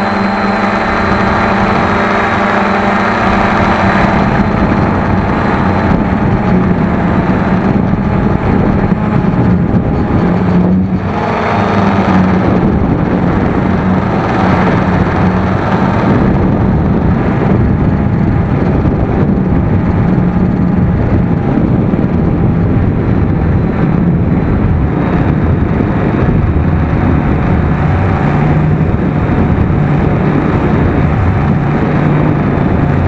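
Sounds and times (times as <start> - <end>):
drone motors humming: 0.0 - 33.0
wind noise on microphone: 0.0 - 33.0.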